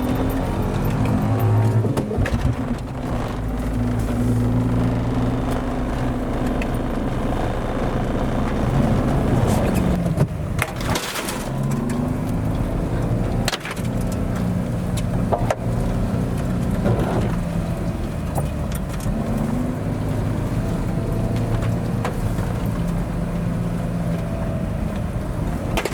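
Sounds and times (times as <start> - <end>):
truck engine revving: 0.0 - 25.9.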